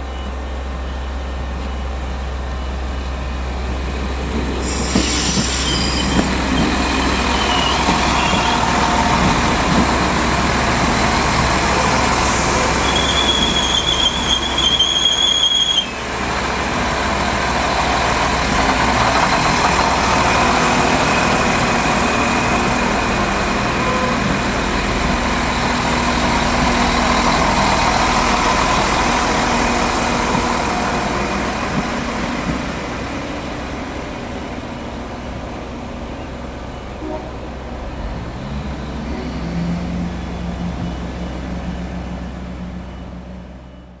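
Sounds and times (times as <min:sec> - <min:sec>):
diesel train passing: 0:00.0 - 0:44.0.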